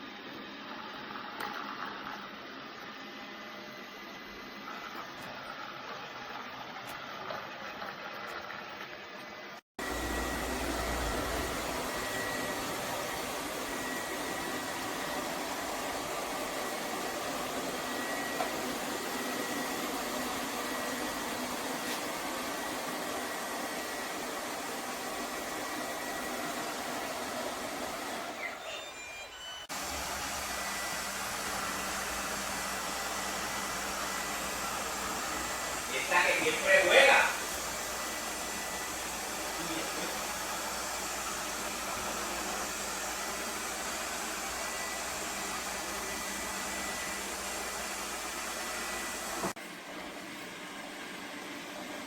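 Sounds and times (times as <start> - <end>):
robot vacuum cleaner running: 0.0 - 52.0.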